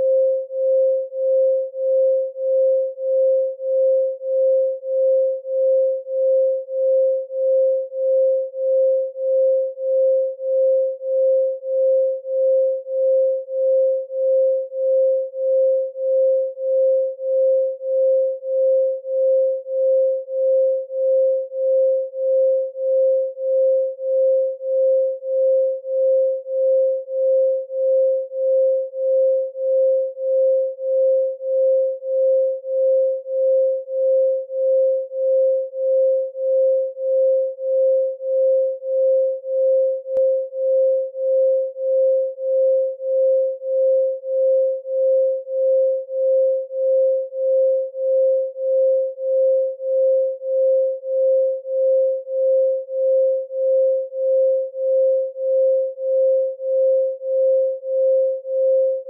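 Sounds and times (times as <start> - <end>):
pulsing sine tone: 0.0 - 59.0.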